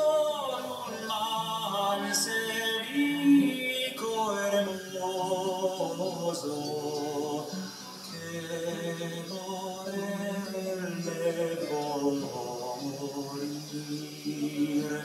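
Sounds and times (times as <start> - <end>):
musical accompaniment: 0.0 - 15.0
person singing long wavering notes: 0.0 - 15.0.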